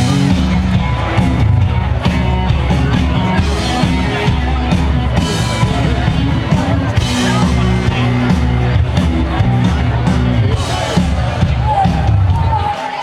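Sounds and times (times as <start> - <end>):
strong bass line: 0.0 - 12.7
live rock band playing: 0.0 - 12.8
crowd noise: 0.0 - 13.0.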